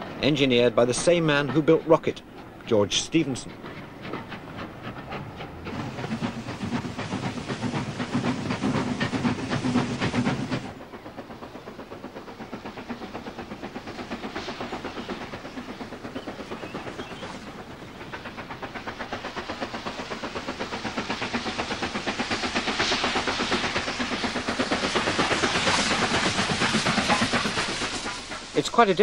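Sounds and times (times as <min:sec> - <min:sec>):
steam locomotive chuffing: 0:00.0 - 0:29.0
train running rhythmic beat: 0:00.0 - 0:29.0
hiss of steam: 0:02.9 - 0:29.0.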